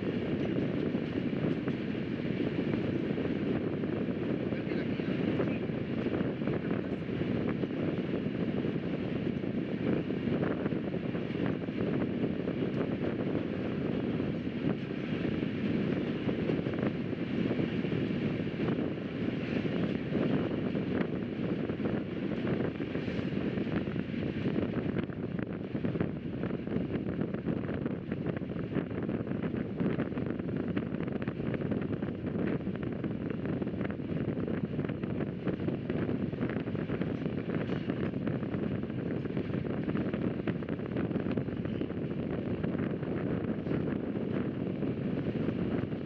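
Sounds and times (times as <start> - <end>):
train wheels rumbling on rail: 0.0 - 46.0
wind noise: 0.0 - 46.0.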